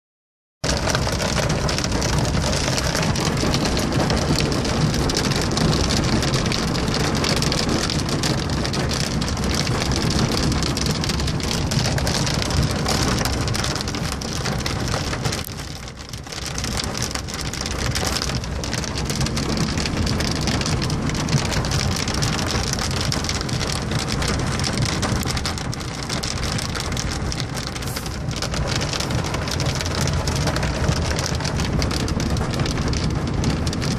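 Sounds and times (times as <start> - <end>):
heavy rain on car windshield: 0.6 - 33.9.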